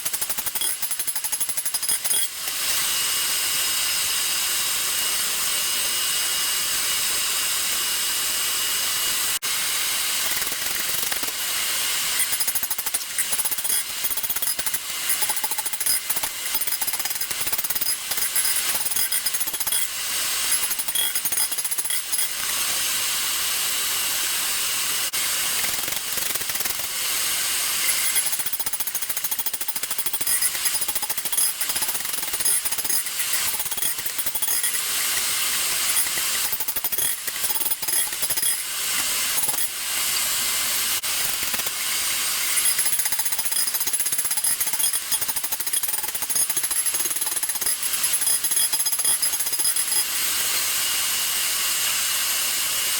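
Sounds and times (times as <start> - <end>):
power tool running on steel: 0.0 - 52.9.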